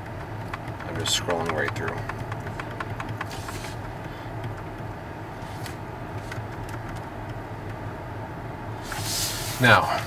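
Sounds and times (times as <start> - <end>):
car cabin hum: 0.0 - 10.0.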